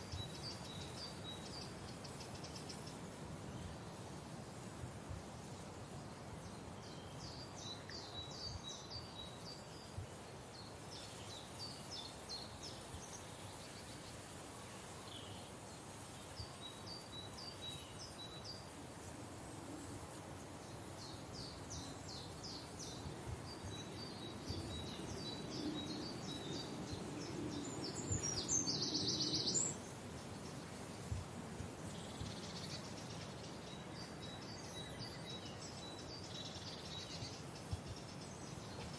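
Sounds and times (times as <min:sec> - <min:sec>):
small birds chirping: 0:00.0 - 0:04.7, 0:05.4 - 0:19.1, 0:19.8 - 0:38.9
outdoor background hiss: 0:00.0 - 0:38.9.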